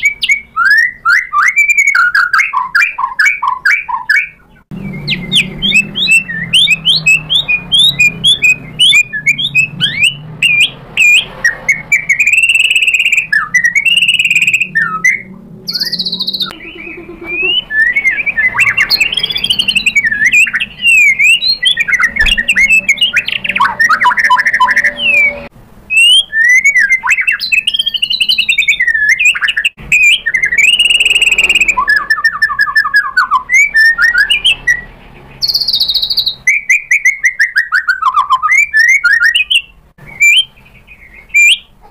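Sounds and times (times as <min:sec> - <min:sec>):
bird singing whistles and trills: 0:00.0 - 0:41.8.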